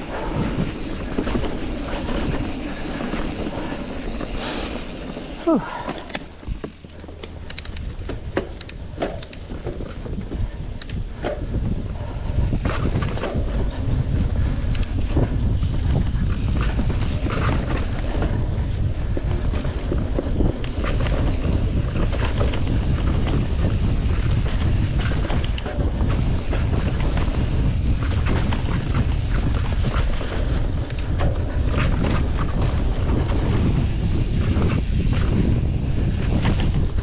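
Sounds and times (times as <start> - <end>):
bike clicks and rattles: 0.0 - 37.0
bike tyres on dirt: 0.0 - 37.0
wind buffeting microphone: 0.0 - 37.0.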